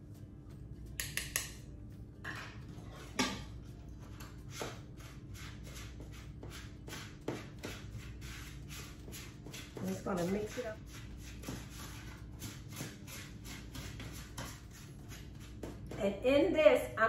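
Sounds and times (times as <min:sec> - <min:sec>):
whisk stirring dry mix in bowl: 0:02.3 - 0:16.0.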